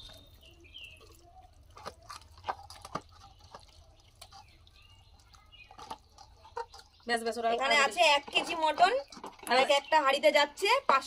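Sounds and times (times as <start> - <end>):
wet meat squelching in clay pot: 0.0 - 11.0.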